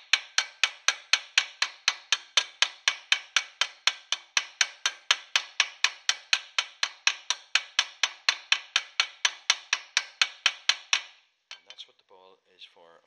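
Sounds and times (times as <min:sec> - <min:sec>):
hammer tapping metal rivet: 0:00.0 - 0:11.8.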